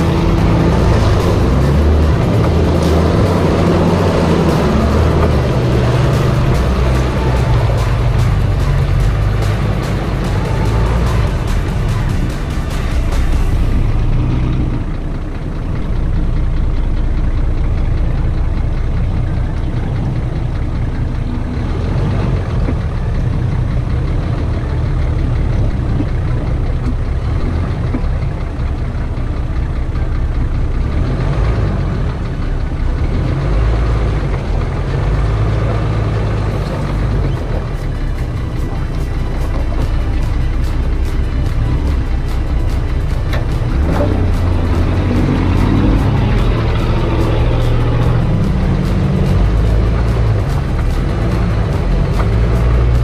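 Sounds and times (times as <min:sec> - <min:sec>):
engine rumbling at low revs: 0:00.0 - 0:53.0.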